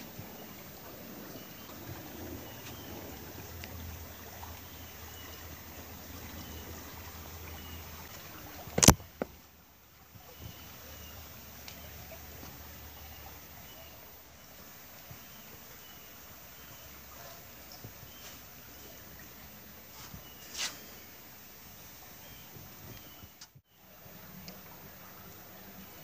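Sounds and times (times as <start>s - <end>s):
creek water trickling over rocks: 0.0s - 26.0s.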